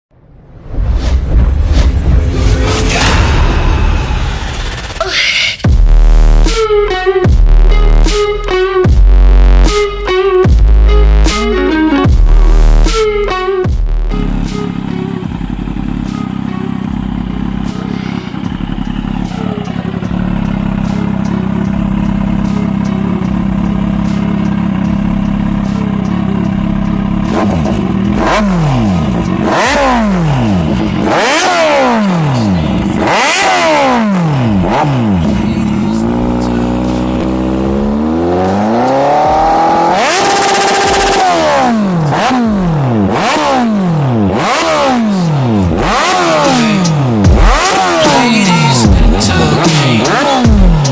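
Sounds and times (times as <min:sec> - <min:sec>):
motorcycle engine idling and revving: 0:05.6 - 0:50.9.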